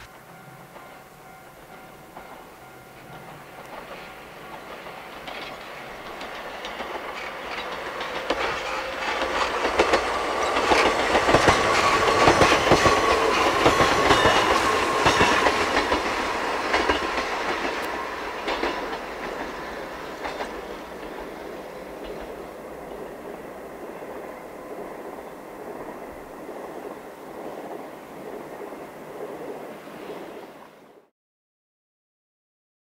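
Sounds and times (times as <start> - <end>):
train wheels clicking on rails: 0.0 - 30.6
train whine: 0.0 - 31.1.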